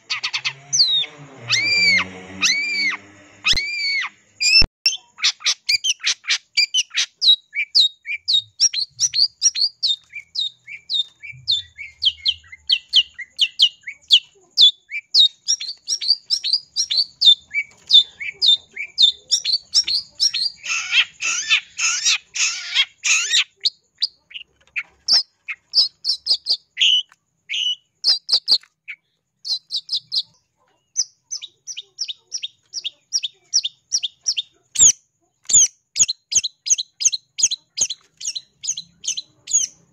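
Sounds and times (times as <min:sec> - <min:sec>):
bird chirping rapidly: 0:00.0 - 0:39.9
harsh rasping bird chatter: 0:00.0 - 0:39.9.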